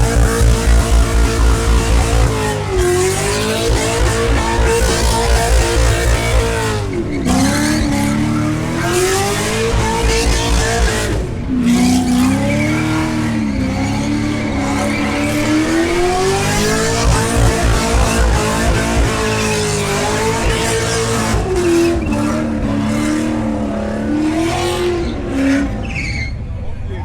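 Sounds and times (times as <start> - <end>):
spinning tyres hissing: 0.0 - 11.3, 12.0 - 22.5
car engine revving: 0.0 - 26.4.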